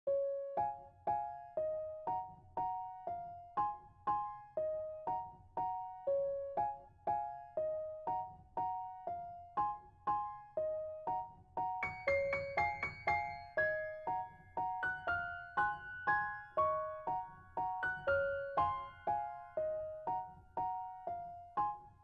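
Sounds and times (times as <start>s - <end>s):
gentle piano chords: 0.1s - 22.0s.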